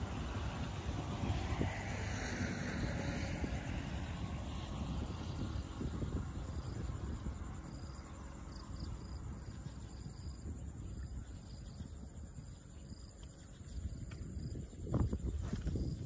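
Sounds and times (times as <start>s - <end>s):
insects chirping: 0.0s - 16.0s
steady low rumble: 0.0s - 16.0s.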